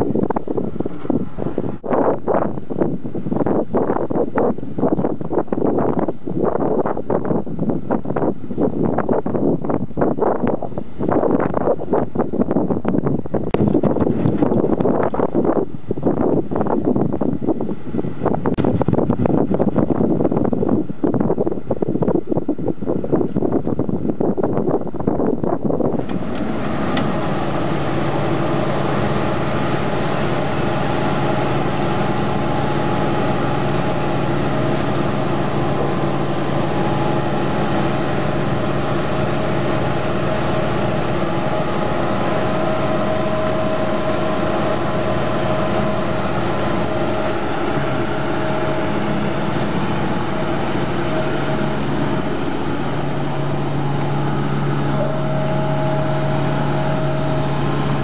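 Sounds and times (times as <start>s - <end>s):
excavator diesel engine: 0.0s - 22.0s, 25.6s - 58.0s.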